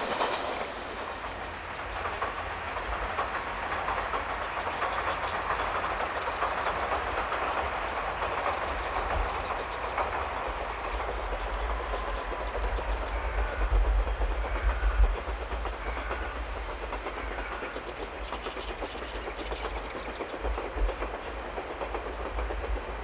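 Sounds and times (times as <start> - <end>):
distant diesel railcar running: 0.0 - 23.0
wheels clicking over rail joints: 0.0 - 23.0.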